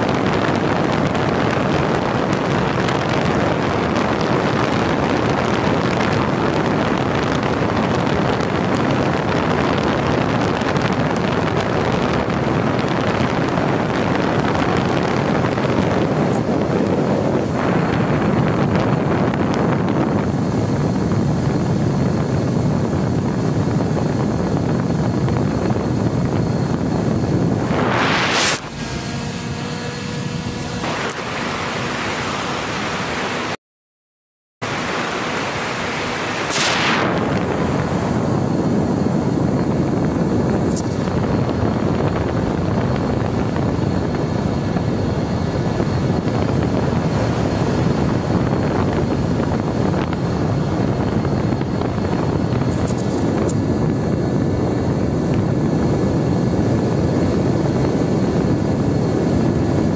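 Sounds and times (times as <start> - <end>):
wind rushing over microphone: 0.0 - 33.6, 34.6 - 59.9.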